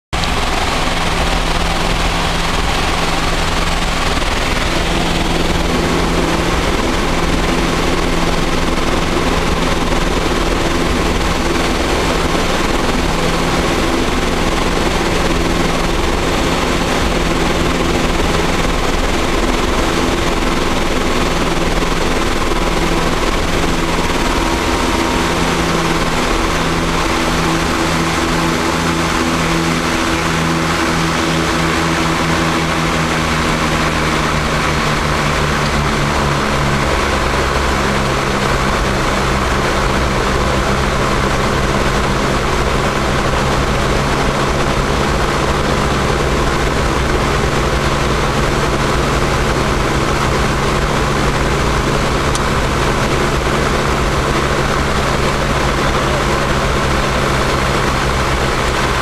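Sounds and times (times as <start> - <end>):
turboprop engine drone: 0.0 - 59.0
rushing air: 0.1 - 59.0.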